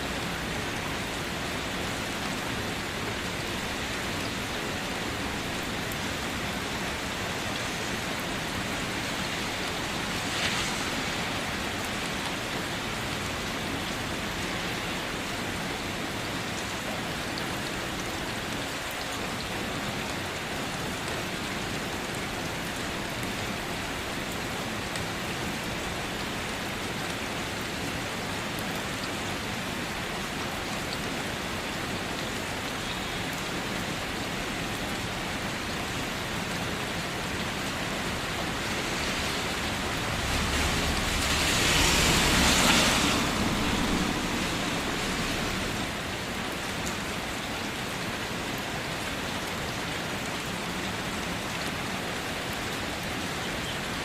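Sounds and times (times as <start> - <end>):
rain falling on a car: 0.0 - 54.0.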